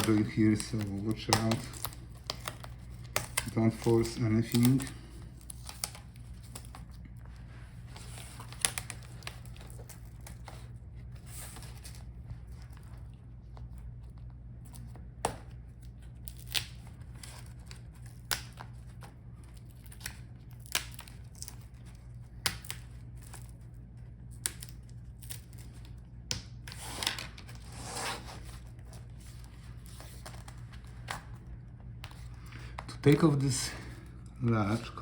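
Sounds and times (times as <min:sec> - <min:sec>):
plastic scraping and peeling: 0:00.0 - 0:33.6.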